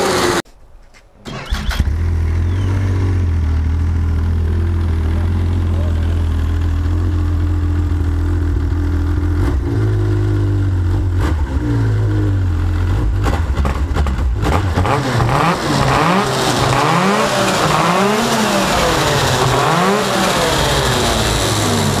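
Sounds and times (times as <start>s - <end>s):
snowmobile engine idling and revving: 0.0s - 0.4s, 1.4s - 22.0s.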